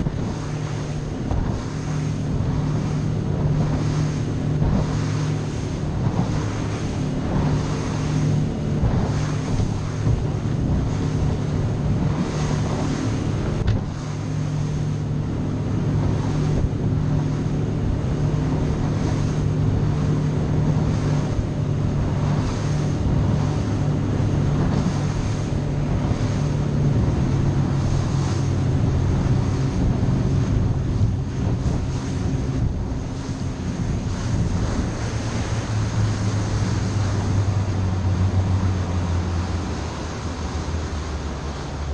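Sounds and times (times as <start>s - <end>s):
outboard engine droning: 0.0s - 41.9s
water rushing along hull: 0.0s - 41.9s
wind buffeting microphone: 0.0s - 41.9s.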